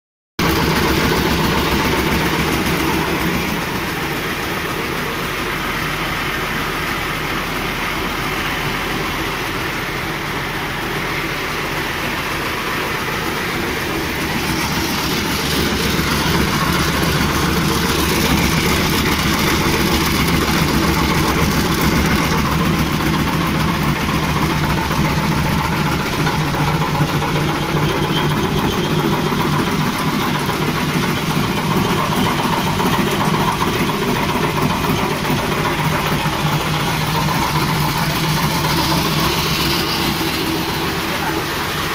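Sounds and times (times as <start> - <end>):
machine running with motor hum: 0.4 - 41.9.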